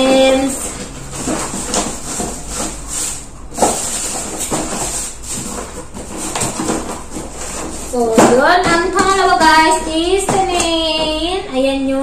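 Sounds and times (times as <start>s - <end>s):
packaging rustling and crinkling: 0.0s - 11.1s.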